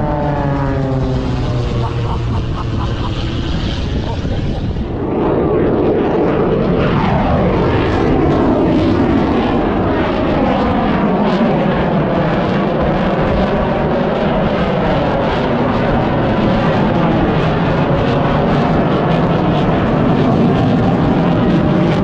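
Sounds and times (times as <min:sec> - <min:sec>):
airplane engine passing overhead: 0:00.0 - 0:22.0.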